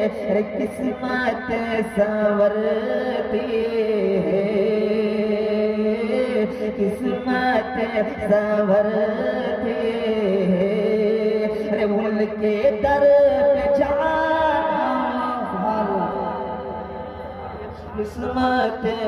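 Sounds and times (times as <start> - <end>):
man chanting over loudspeakers: 0.0 - 19.0.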